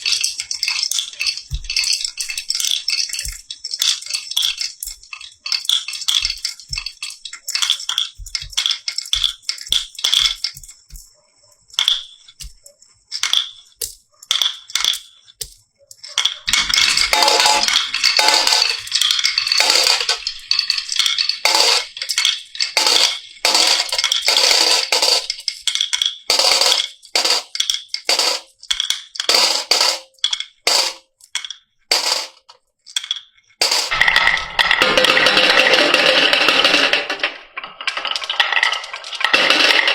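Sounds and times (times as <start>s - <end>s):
marbles clattering along a run: 0.0s - 11.0s, 16.0s - 39.9s.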